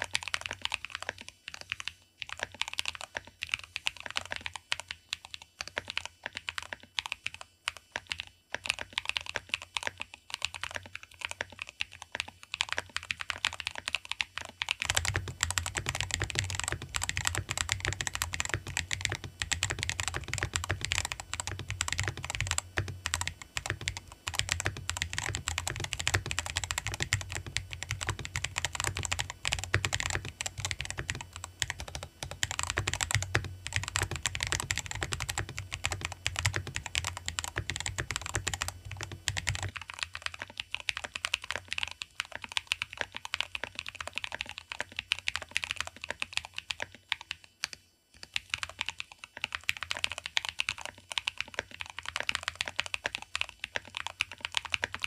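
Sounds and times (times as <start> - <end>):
fast mechanical keyboard typing: 0.0 - 55.0.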